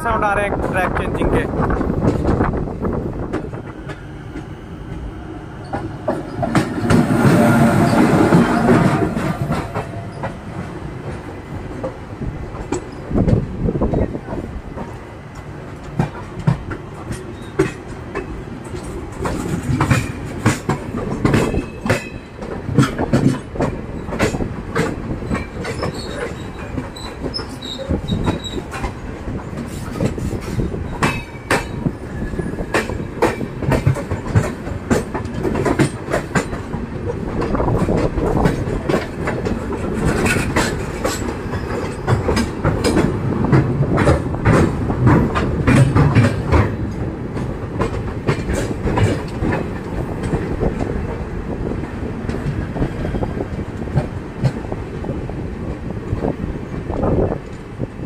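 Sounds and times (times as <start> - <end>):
passing train: 0.0 - 58.0
train rumble: 0.0 - 58.0
train wheels clickety-clack: 0.0 - 58.0.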